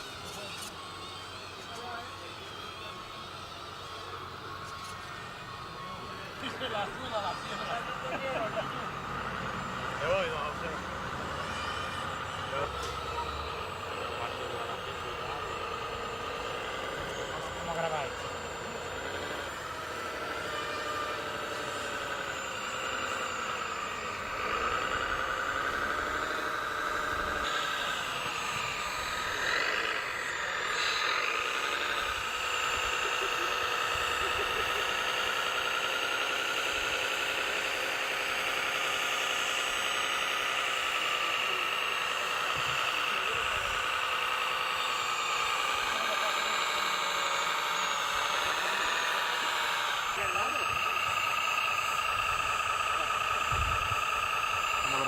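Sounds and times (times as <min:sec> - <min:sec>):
toy truck motors whining: 0:00.0 - 0:55.0.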